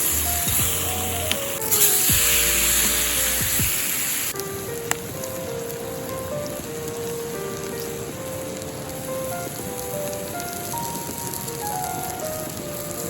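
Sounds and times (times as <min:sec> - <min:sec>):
background music: 0:00.0 - 0:13.0
meat sizzling in a pan: 0:00.0 - 0:13.0.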